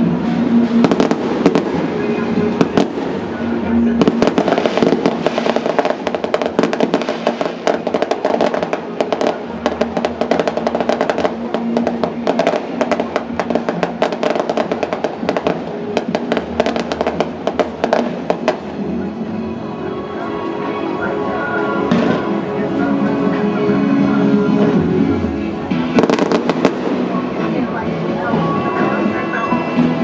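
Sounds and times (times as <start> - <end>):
fireworks crackling and banging: 0.0 - 30.0
music playing: 0.0 - 30.0.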